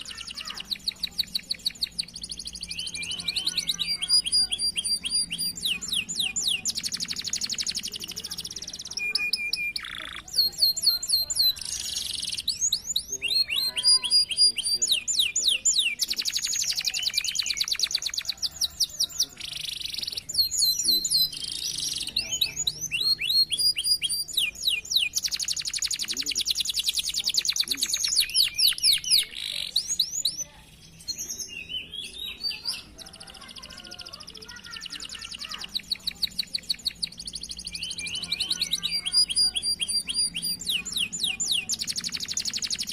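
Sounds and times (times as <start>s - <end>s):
canaries singing trills: 0.0s - 42.9s.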